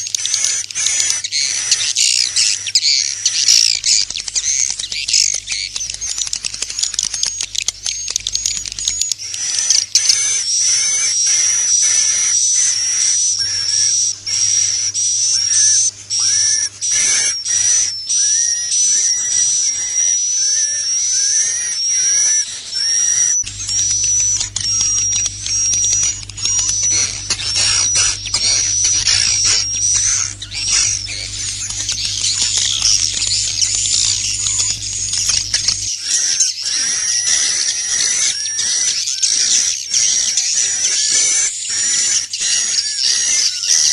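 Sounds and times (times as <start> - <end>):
swiftlets twittering: 0.0 - 38.1
constant low hum: 0.0 - 43.9.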